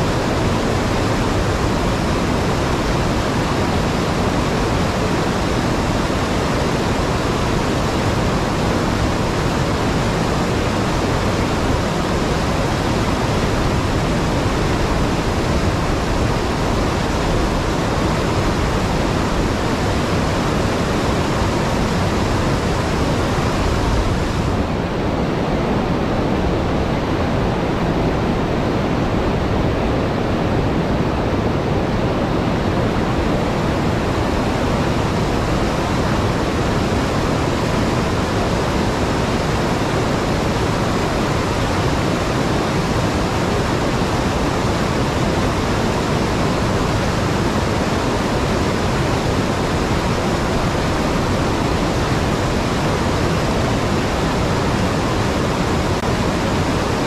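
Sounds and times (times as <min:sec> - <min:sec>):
river water rushing over dam: 0:00.0 - 0:57.0.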